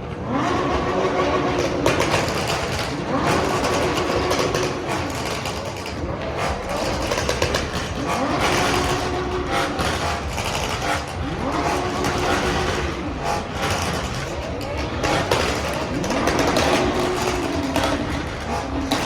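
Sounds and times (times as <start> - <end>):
vehicle engines revving: 0.0 - 19.0.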